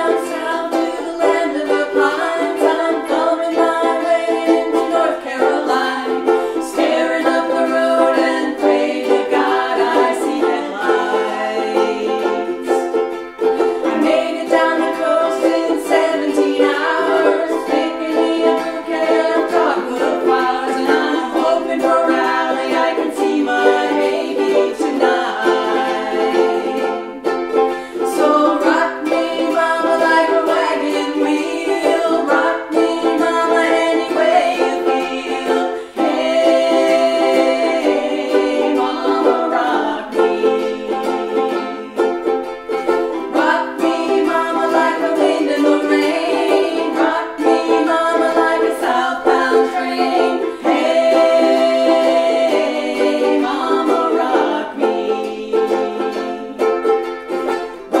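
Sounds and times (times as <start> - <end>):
person singing: 0.0 - 58.0
ukuleles strummed: 0.0 - 58.0.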